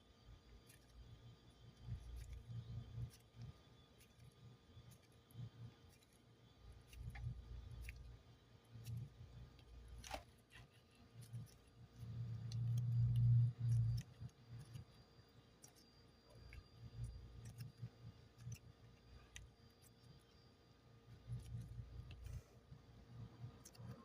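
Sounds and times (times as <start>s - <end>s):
clay handling clicks and ticks: 0.2s - 24.0s.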